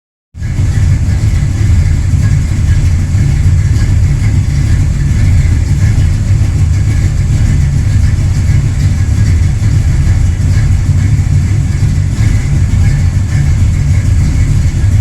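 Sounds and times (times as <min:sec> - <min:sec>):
car engine idling: 0:00.4 - 0:15.0.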